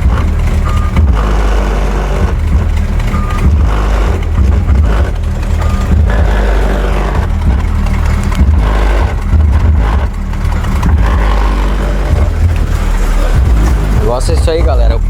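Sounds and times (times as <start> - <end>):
bass-heavy music from car speakers: 0.0 - 15.0.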